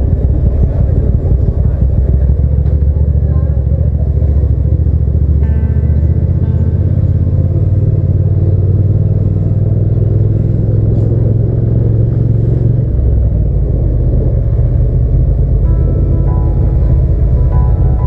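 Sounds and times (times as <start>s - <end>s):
motorcycle engine exhaust drone: 0.0s - 18.0s.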